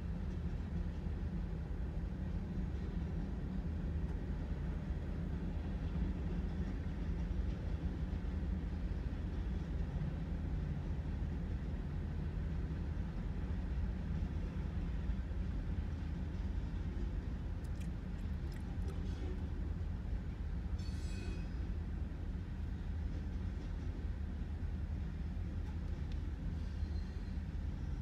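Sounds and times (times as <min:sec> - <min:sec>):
freight train rolling rumble: 0:00.0 - 0:28.0.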